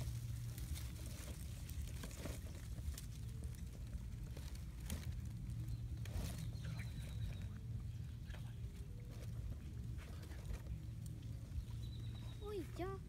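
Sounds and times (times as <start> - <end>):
dry leaves crackling: 0.0 - 13.0
steady low rumble: 0.0 - 13.0.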